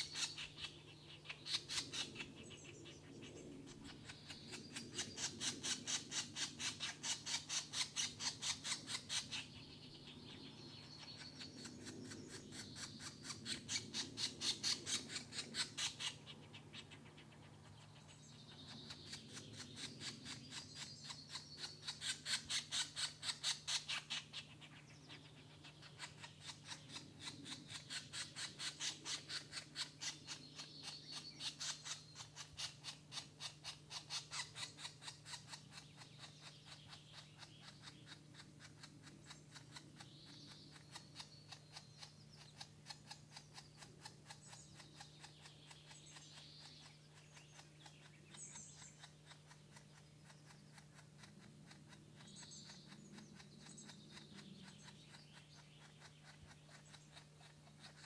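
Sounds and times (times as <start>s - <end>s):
woodpecker sharp ticks: 0.0s - 2.5s, 3.9s - 9.5s, 17.8s - 24.7s, 25.7s - 58.0s
songbirds singing: 0.0s - 58.0s.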